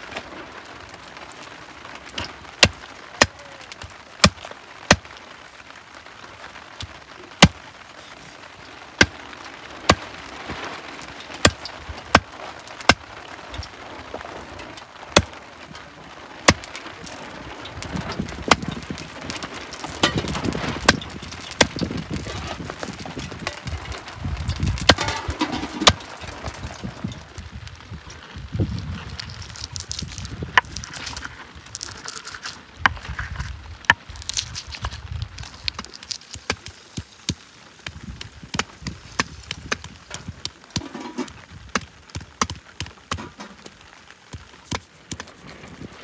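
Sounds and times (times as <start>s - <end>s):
rustle and clatter: 6.0s - 46.0s.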